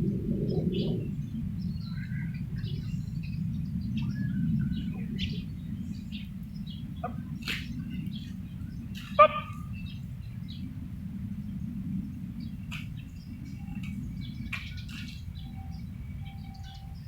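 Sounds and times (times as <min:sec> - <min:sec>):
steady low rumble: 0:00.0 - 0:17.0
wild birds chirping: 0:00.0 - 0:17.0.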